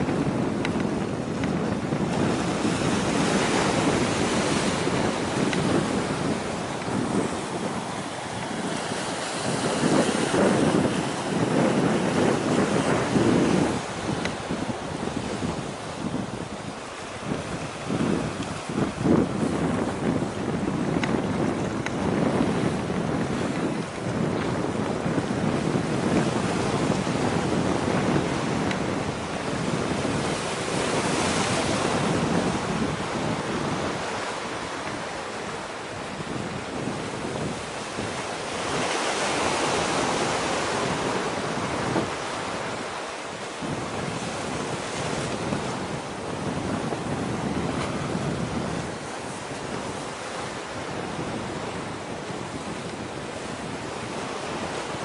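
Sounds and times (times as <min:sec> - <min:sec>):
sea waves: 0:00.0 - 0:55.0
wind buffeting microphone: 0:00.0 - 0:55.0.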